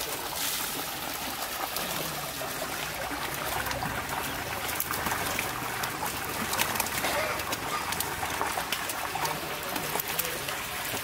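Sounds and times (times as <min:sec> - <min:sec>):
water streaming off a net: 0:00.0 - 0:11.0
water trickling in a tank: 0:00.0 - 0:11.0.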